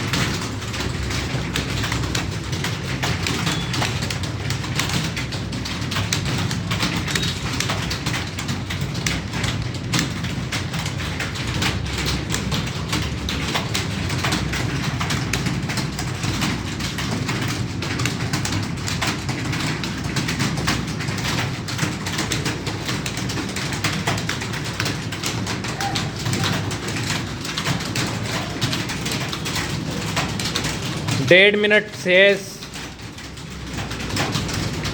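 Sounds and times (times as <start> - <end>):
keyboard typing: 0.0 - 34.9.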